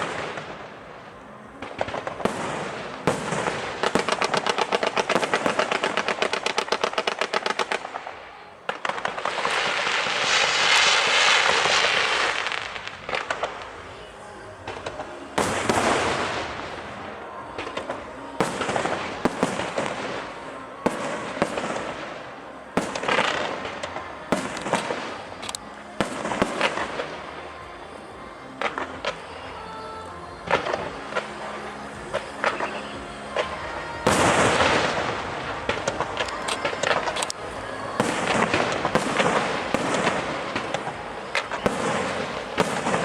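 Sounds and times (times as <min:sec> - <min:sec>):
fireworks exploding and crackling: 0:00.0 - 0:43.0.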